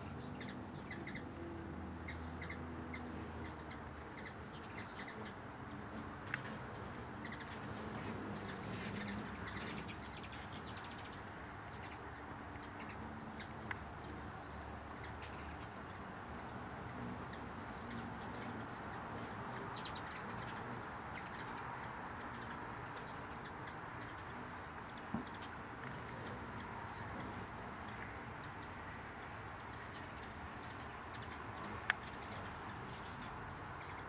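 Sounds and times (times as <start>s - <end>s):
hummingbird chirps: 0.0s - 34.0s
insects trilling: 0.0s - 34.0s.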